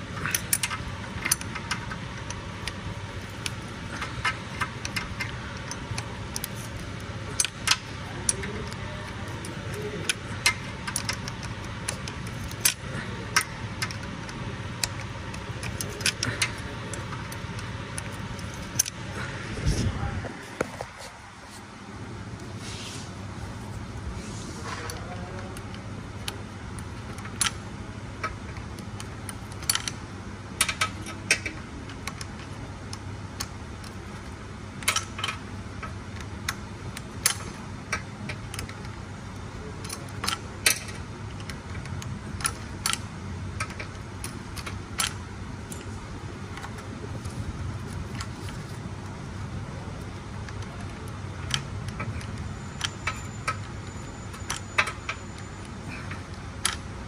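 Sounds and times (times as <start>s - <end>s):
steady low hum: 0.0s - 57.0s
metallic clicks of tools on screws: 0.2s - 19.1s, 28.2s - 30.0s, 30.6s - 48.7s, 50.1s - 57.0s.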